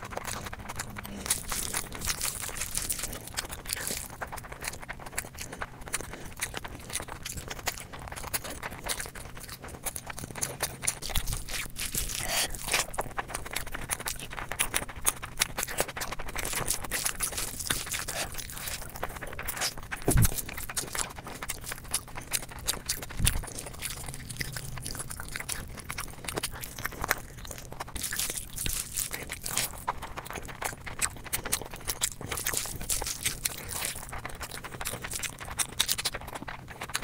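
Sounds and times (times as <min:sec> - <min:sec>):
person chewing food wetly: 0:00.0 - 0:37.0.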